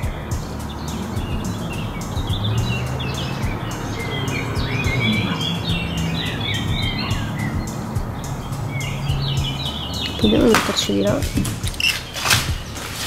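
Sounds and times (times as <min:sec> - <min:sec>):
small birds chirping and singing: 0:00.0 - 0:13.0.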